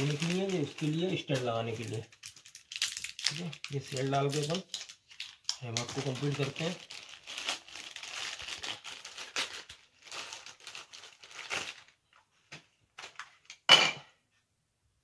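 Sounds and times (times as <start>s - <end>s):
plastic wrapper crinkling: 0.0s - 12.3s, 13.0s - 13.6s.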